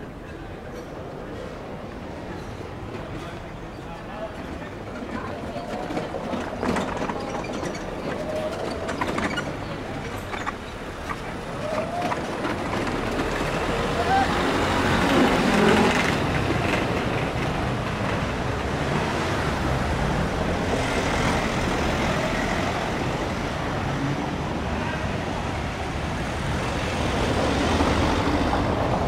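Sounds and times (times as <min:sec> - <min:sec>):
faint voices of passers-by: 0:00.0 - 0:29.0
road traffic rumble: 0:00.0 - 0:29.0.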